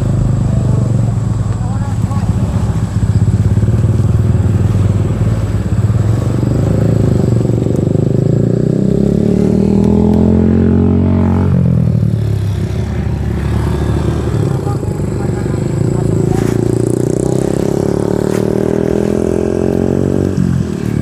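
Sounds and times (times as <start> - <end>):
vehicle engine accelerating: 0.0 - 21.0.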